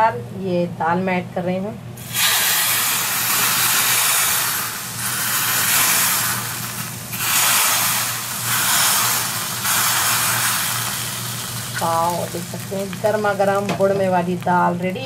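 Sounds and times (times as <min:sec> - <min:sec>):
hot oil sizzling in liquid: 0:02.0 - 0:15.0.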